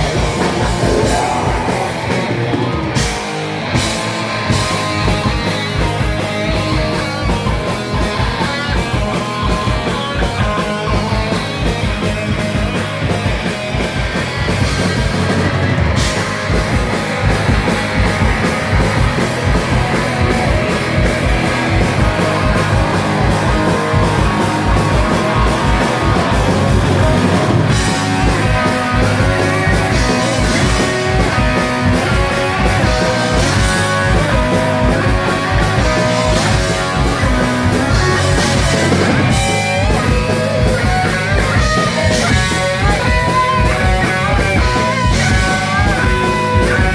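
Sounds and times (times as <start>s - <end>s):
bass guitar: 0.0s - 46.9s
distorted electric guitars: 0.0s - 46.9s
steady drum beat: 0.0s - 46.9s.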